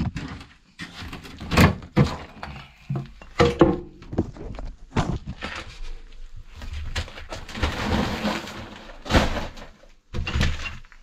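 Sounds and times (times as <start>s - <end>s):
knocks and scraping: 0.0s - 11.0s.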